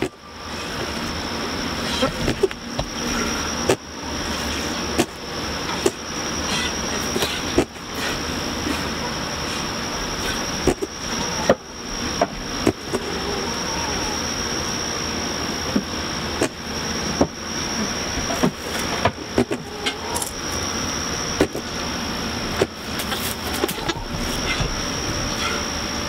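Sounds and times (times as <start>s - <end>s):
mechanical hum with high whine: 0.0s - 26.0s.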